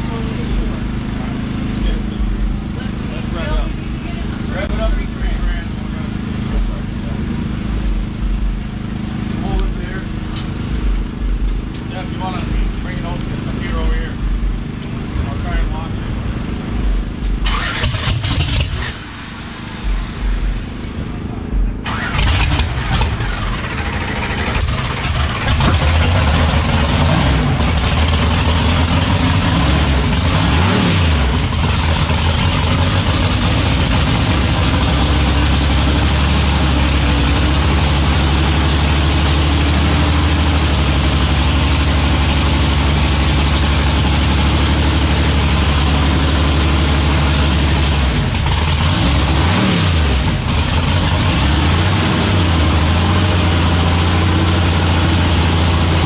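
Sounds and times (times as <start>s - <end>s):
drag racing car engines idling: 0.0s - 56.0s.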